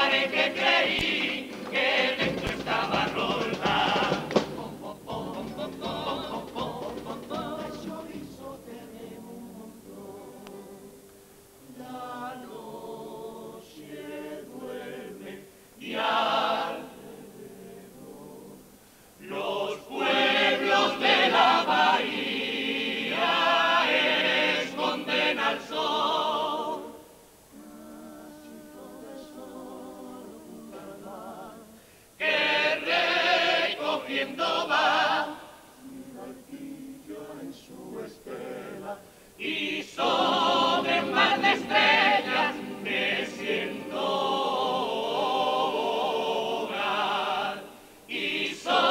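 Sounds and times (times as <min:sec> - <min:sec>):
men's choir singing in harmony: 0:00.0 - 0:48.9.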